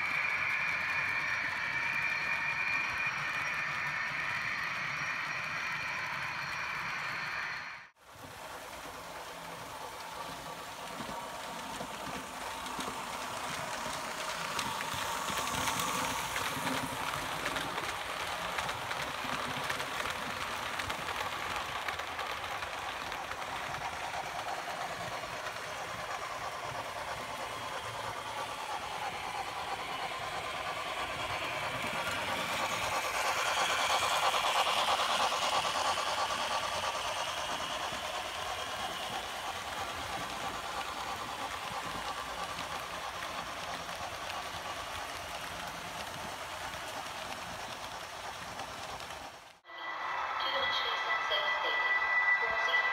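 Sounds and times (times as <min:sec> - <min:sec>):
model trains rattling on track: 0:00.0 - 0:49.6.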